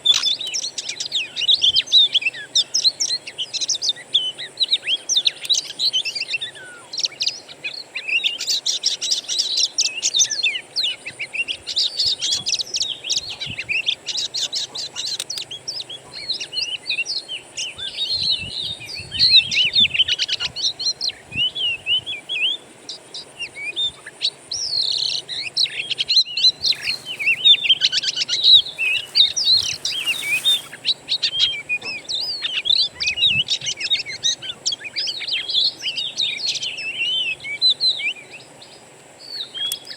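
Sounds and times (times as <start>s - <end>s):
magpie-robin song: 0.0s - 39.9s.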